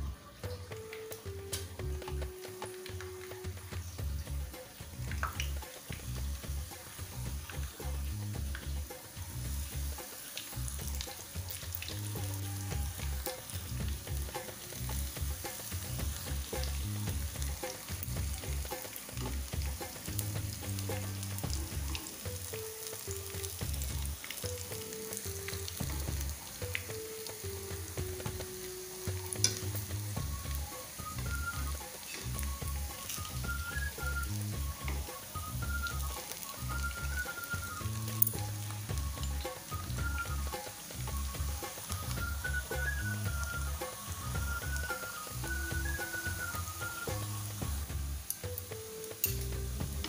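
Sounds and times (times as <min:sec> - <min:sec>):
onion rings sizzling in oil: 0:00.0 - 0:50.0.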